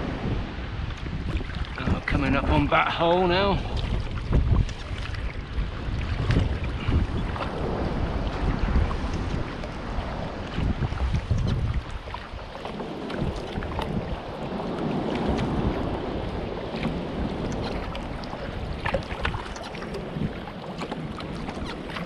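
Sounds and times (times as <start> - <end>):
water splashing against a kayak: 0.0 - 22.0
wind buffeting microphone: 0.0 - 22.0.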